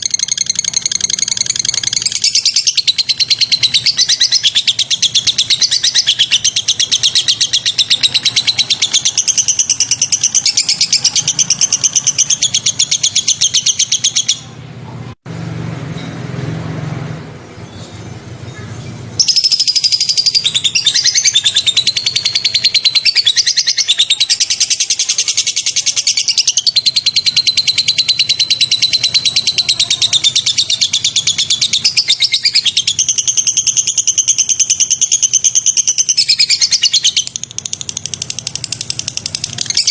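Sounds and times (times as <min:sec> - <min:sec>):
songbird chattering song: 0:00.0 - 0:14.6, 0:17.5 - 0:39.9.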